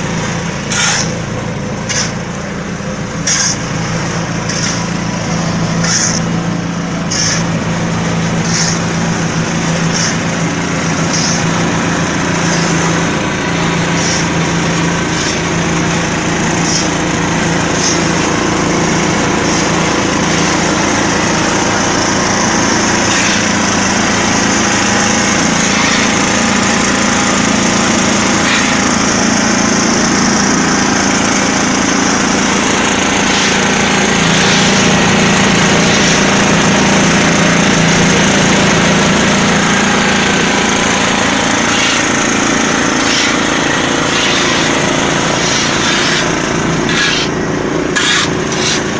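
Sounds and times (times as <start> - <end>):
concrete mixer diesel engine: 0.0 - 48.9
shovel scraping: 0.2 - 2.4, 3.0 - 48.9.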